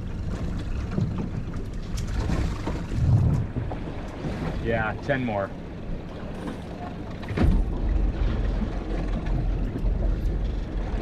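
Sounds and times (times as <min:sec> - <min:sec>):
low boat engine rumble: 0:00.0 - 0:11.0.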